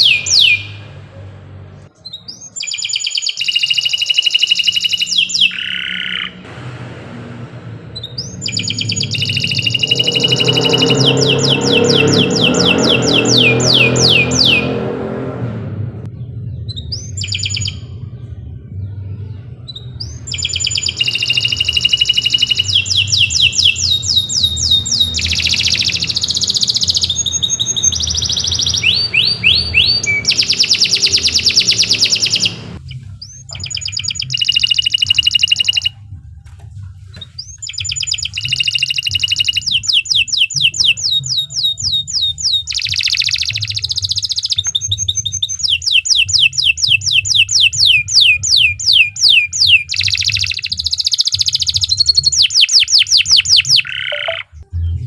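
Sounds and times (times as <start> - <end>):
canary singing trills: 0.0 - 1.2, 1.8 - 6.4, 8.0 - 15.0, 16.2 - 36.1, 37.0 - 55.0.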